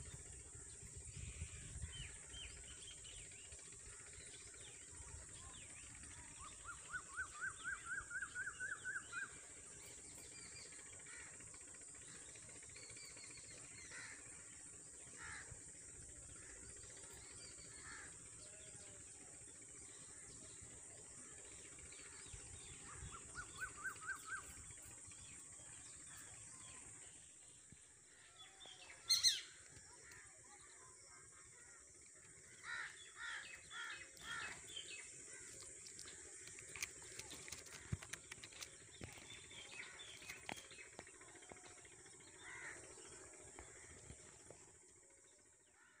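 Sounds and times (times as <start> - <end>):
birds calling: 0.0 - 44.8.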